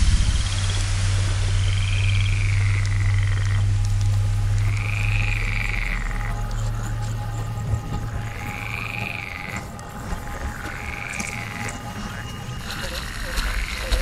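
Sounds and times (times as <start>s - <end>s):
low hum and hiss: 0.0s - 14.0s
rippling frog-like calls: 0.2s - 14.0s.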